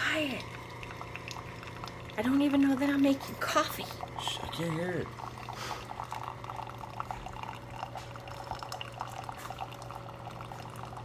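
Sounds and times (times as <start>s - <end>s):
coffee dripping into mug: 0.0s - 11.0s
coffee maker humming: 0.0s - 11.0s.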